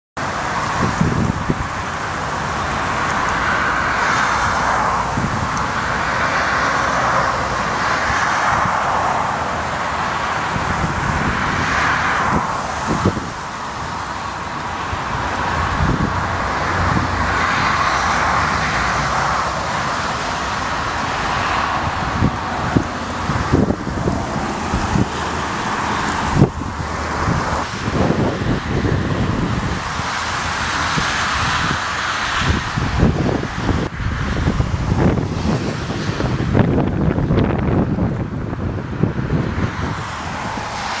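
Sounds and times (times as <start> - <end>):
jet engines roaring: 0.2 - 41.0
wind buffeting microphone: 0.2 - 41.0.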